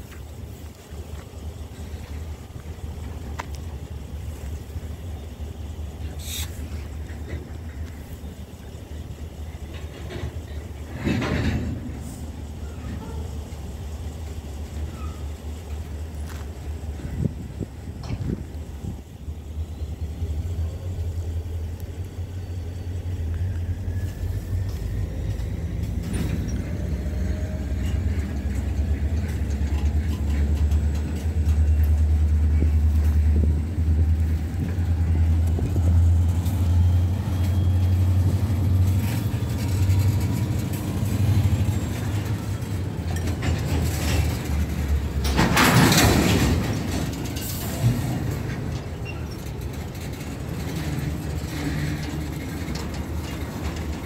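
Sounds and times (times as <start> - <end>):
boxcars rattling: 0.0 - 54.0
train wheels rumbling on rails: 0.0 - 54.0.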